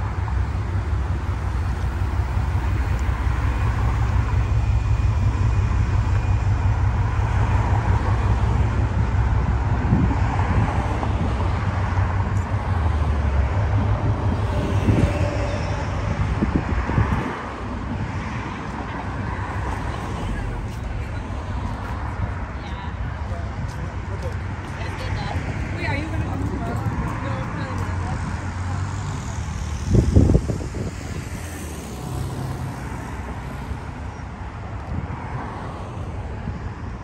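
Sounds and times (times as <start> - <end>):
deep rumble: 0.0 - 35.4
cars passing: 0.0 - 37.0.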